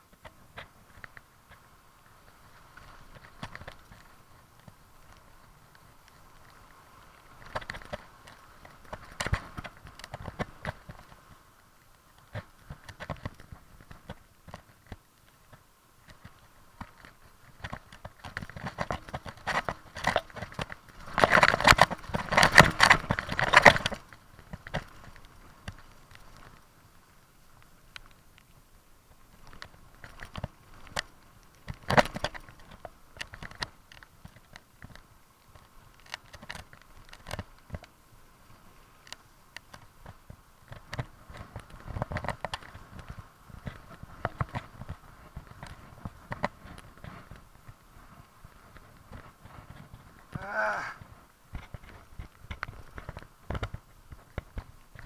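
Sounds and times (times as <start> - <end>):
mountain bike rattling: 0.0 - 55.0.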